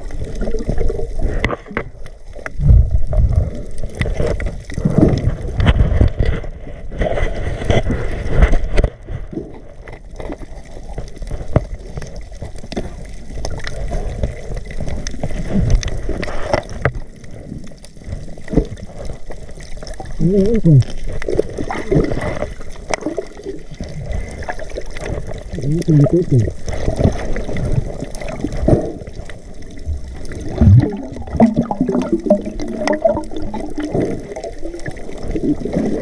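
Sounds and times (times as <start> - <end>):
water sloshing and gurgling: 0.0 - 36.0.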